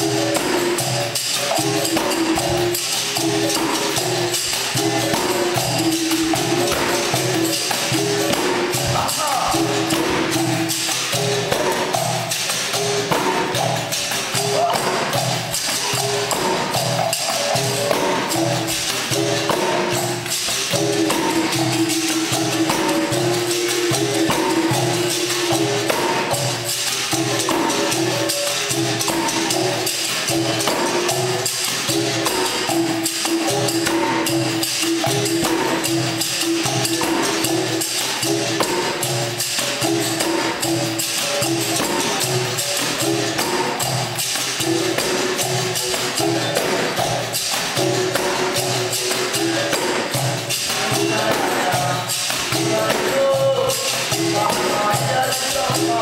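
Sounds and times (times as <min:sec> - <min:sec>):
atabaque drum: 0:00.0 - 0:56.0
pandeiros: 0:00.0 - 0:56.0.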